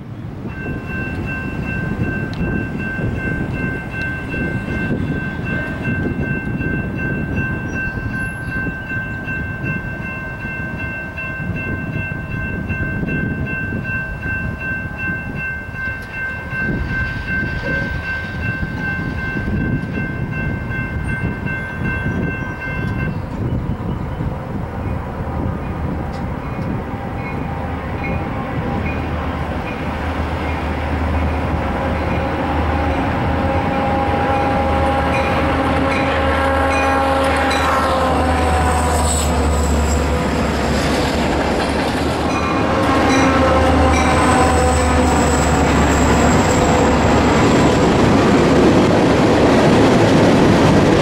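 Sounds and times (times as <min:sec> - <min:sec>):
railroad crossing bell ringing: 0:00.0 - 0:51.0.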